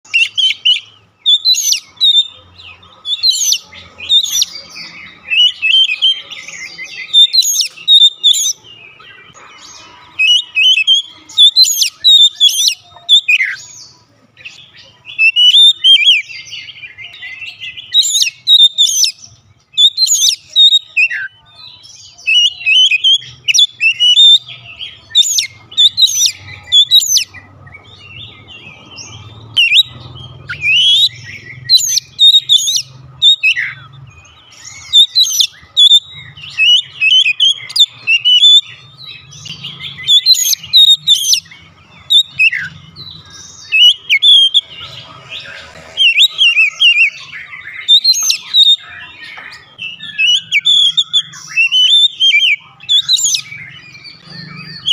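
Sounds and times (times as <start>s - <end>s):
songbird singing whistled phrases: 0.0s - 45.2s, 45.9s - 54.9s.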